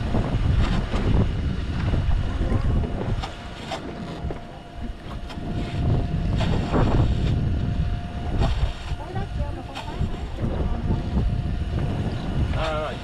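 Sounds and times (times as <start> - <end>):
faint steady whine: 0.0 - 13.0
wind rumbling on microphone: 0.0 - 13.0.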